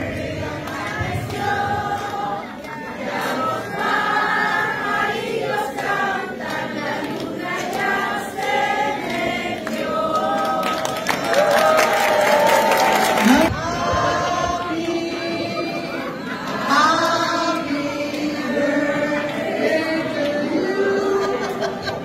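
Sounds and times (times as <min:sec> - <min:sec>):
crowd singing together: 0:00.0 - 0:22.0.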